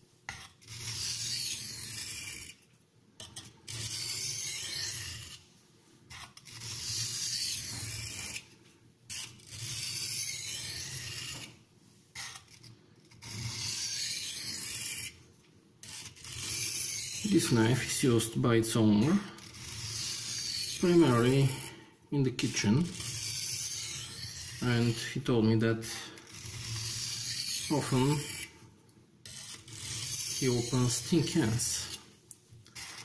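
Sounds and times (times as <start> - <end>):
knife scraping on sharpening stone: 0.3 - 2.6, 3.2 - 5.4, 6.1 - 8.5, 9.1 - 11.6, 12.2 - 15.2, 15.8 - 21.8, 22.4 - 25.2, 25.8 - 28.6, 29.2 - 32.0, 32.7 - 33.0.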